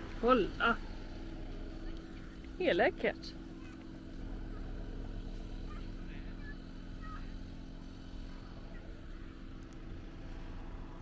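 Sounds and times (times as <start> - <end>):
van engine running at low speed: 0.0 - 11.0.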